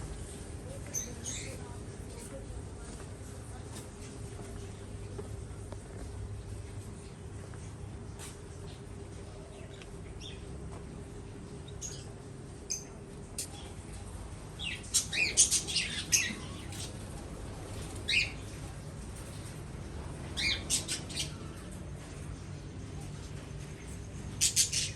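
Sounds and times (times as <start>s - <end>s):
birds chirping: 0.1s - 2.9s, 6.5s - 24.9s.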